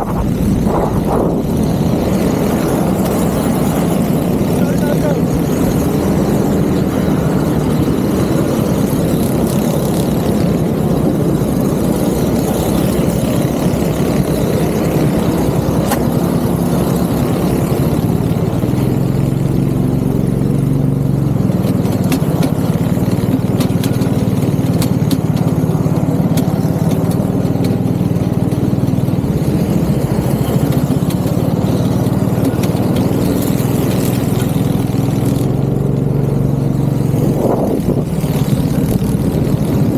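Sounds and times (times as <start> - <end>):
go-kart engine idling: 0.0 - 39.9.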